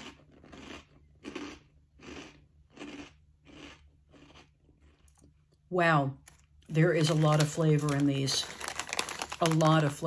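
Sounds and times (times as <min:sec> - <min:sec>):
crunchy snack chewing: 0:00.0 - 0:05.6, 0:06.2 - 0:09.9.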